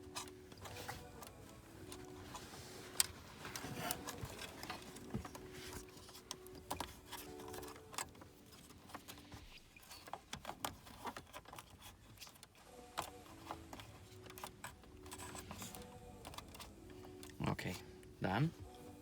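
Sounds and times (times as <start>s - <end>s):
clicks and rustles of hands: 0.0s - 17.4s.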